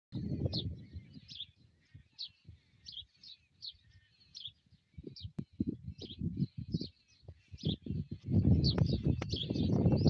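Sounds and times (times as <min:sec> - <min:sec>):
wind buffeting microphone: 0:00.1 - 0:10.0
bird chirping: 0:00.2 - 0:10.0.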